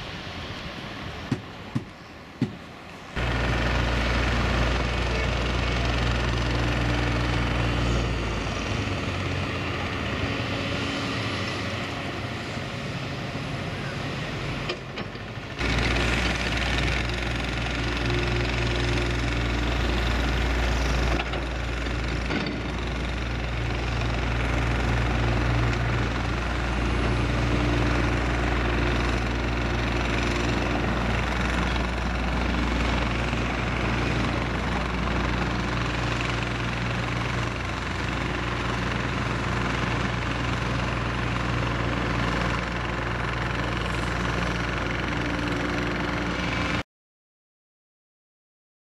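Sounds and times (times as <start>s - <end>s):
heavy machinery diesel engines: 0.0s - 46.8s.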